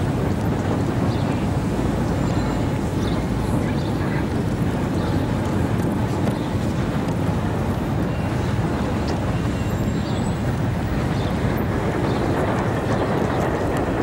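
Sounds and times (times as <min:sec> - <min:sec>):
road vehicles rumbling: 0:00.0 - 0:14.0.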